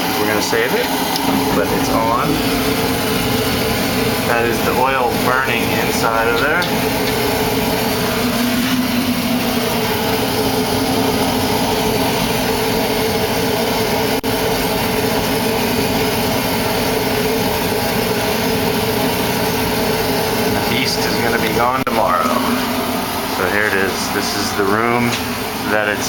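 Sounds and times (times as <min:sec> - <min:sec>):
oil burner firing: 0:00.1 - 0:26.0.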